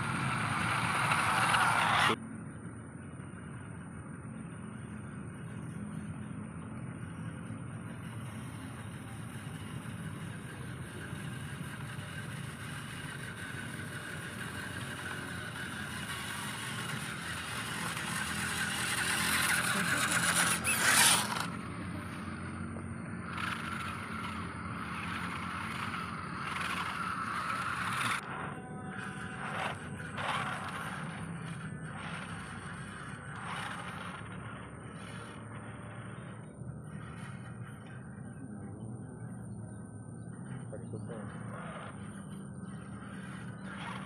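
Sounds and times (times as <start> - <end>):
toy truck motor whine: 0.0 - 2.2, 4.6 - 44.0.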